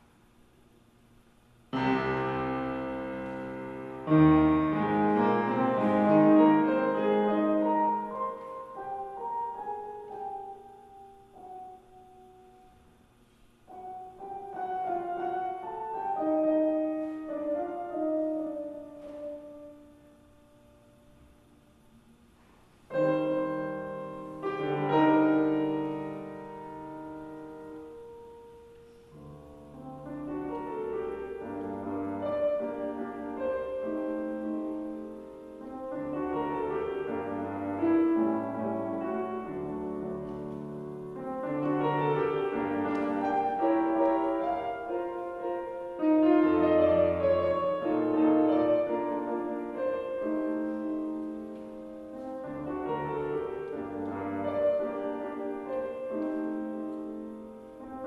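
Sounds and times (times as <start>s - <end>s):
grand piano playing: 1.6s - 58.0s.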